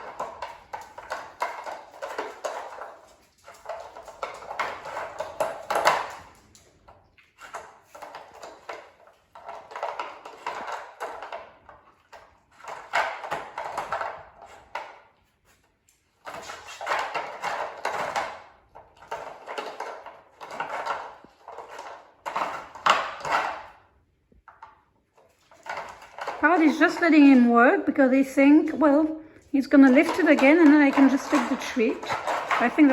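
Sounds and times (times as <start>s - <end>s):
plastic toy clattering and scraping: 0.0s - 23.9s, 24.5s - 27.6s, 28.6s - 32.9s.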